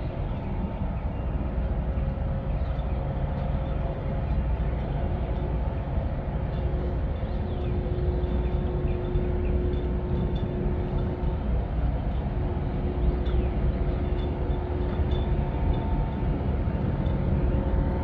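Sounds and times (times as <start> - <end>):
faint steady hums: 0.0 - 18.0
ship engine drone: 0.0 - 18.0.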